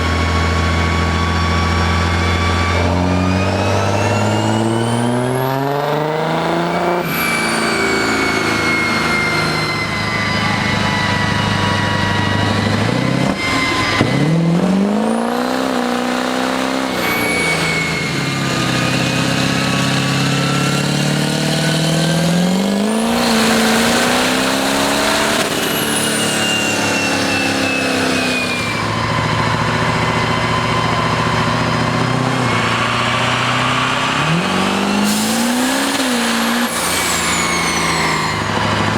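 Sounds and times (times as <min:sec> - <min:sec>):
vehicle engine revving: 0:00.0 - 0:38.9
high gliding whistles: 0:00.8 - 0:38.9.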